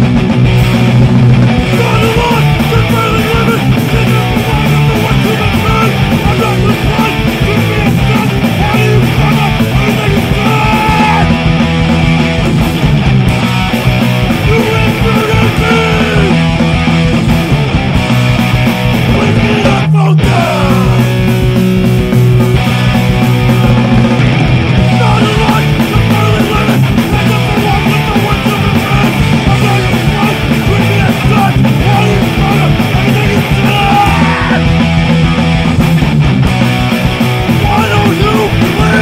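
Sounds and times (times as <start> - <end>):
punk rock music: 0.0 - 39.0.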